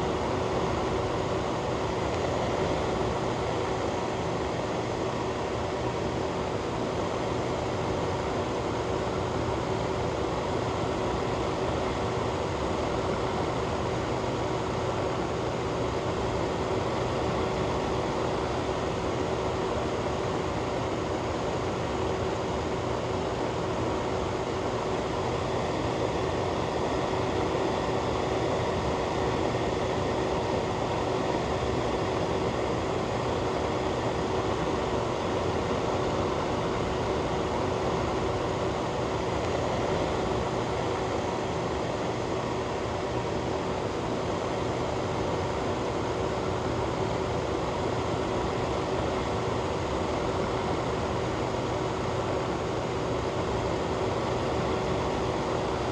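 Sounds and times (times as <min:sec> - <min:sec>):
ventilation fan running: 0:00.0 - 0:55.9.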